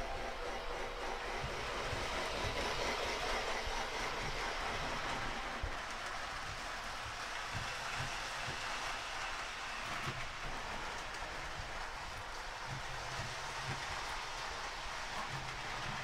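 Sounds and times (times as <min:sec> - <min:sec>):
toy train running on track: 0:00.0 - 0:16.0.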